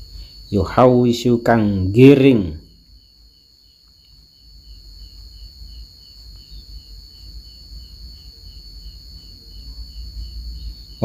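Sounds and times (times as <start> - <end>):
insect trill: 0.0 - 11.0
pulsed insect chirp: 0.0 - 11.0.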